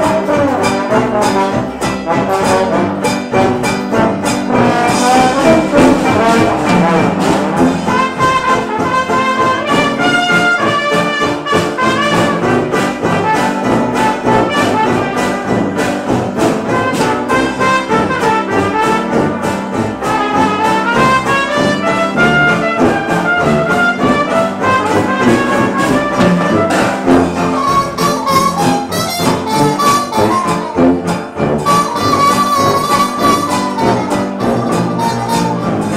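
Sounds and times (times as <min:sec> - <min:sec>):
jazz band playing: 0:00.0 - 0:35.9
trombone: 0:00.0 - 0:35.9
trumpet: 0:00.0 - 0:35.9.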